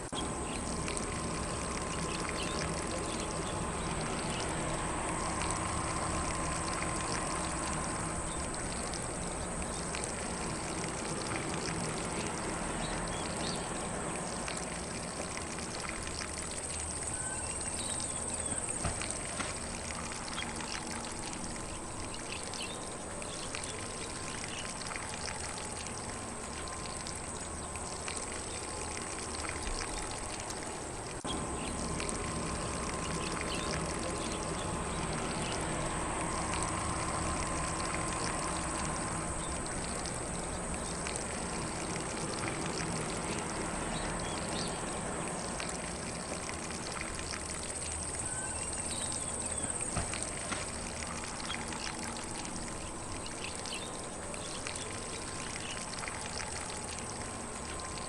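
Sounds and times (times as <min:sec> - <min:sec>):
sprinkler spraying water: 0:00.0 - 0:58.0.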